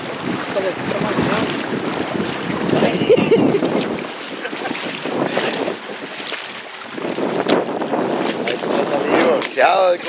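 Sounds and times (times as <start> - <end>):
seawater sloshing and lapping: 0.0 - 10.0
wind buffeting microphone: 0.0 - 10.0.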